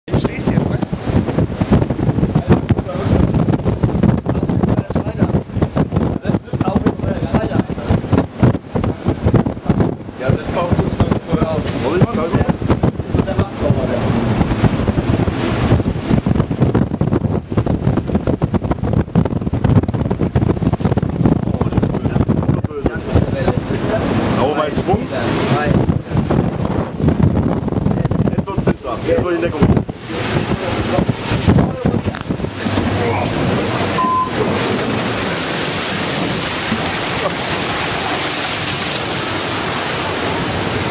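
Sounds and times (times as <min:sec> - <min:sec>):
rough sea: 0:00.0 - 0:40.9
rush of seawater: 0:00.1 - 0:40.9
wind buffeting microphone: 0:00.1 - 0:40.9.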